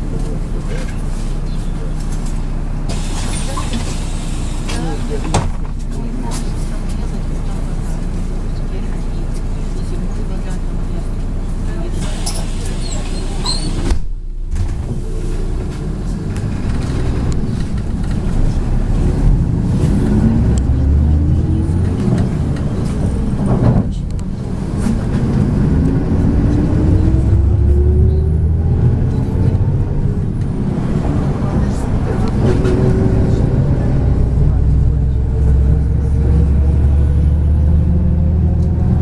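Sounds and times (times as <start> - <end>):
bus engine accelerating: 0.0 - 39.0.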